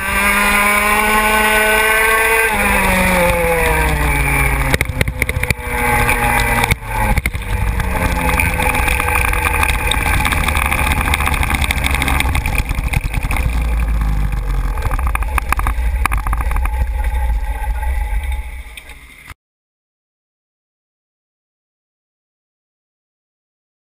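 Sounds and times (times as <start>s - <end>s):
kart engine running: 0.0s - 19.3s
road and wind noise: 0.0s - 19.4s.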